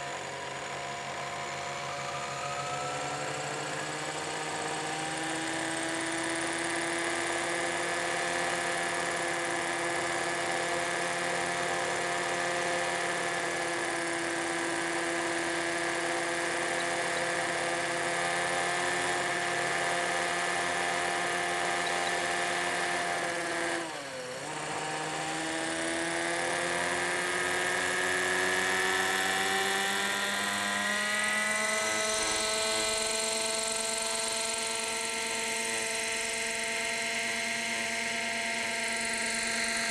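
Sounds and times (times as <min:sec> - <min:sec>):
rc helicopter buzzing whine: 0:00.0 - 0:39.9.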